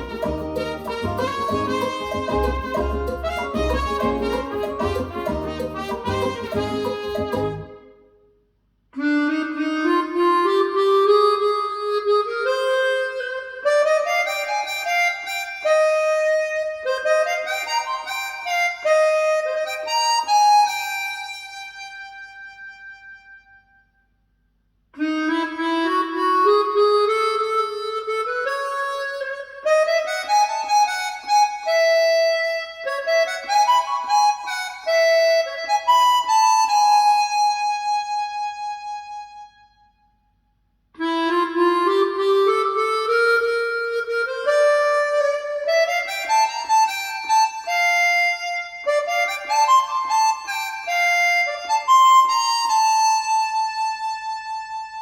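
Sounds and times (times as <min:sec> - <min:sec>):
wind instrument melody: 0:00.0 - 0:08.3, 0:08.9 - 0:24.0, 0:25.0 - 0:40.2, 0:41.0 - 0:55.0.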